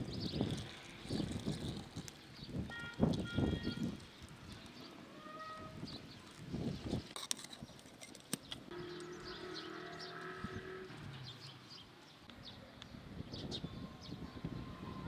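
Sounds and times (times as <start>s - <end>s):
small birds chirping: 0.0s - 14.7s.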